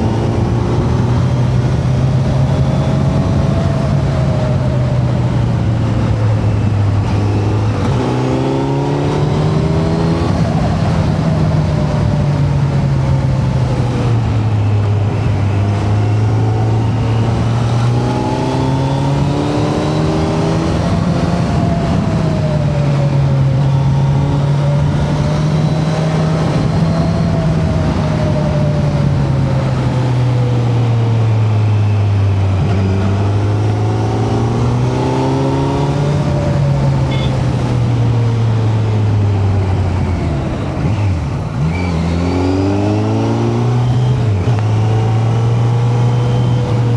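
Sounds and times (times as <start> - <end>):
motorcycle engine revving: 0.0 - 46.9
wind rush over microphone: 0.0 - 46.9.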